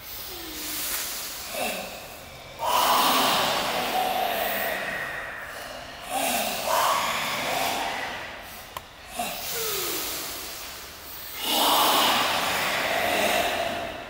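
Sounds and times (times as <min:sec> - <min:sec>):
forceful group exhalations: 0:00.0 - 0:14.0.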